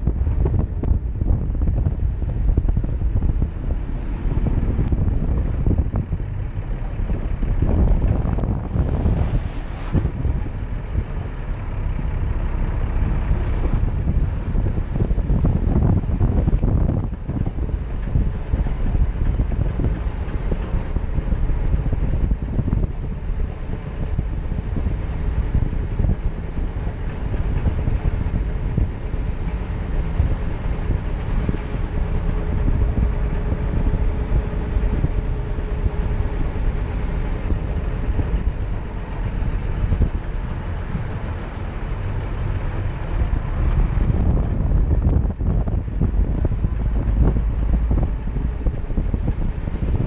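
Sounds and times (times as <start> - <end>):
car engine and road noise: 0.0 - 50.0
wind buffeting microphone: 0.0 - 50.0.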